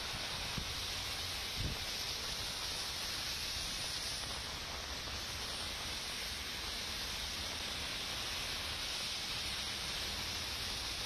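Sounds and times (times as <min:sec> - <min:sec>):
heavy rain on a road: 0:00.0 - 0:11.0
low rumble of traffic: 0:00.0 - 0:11.0.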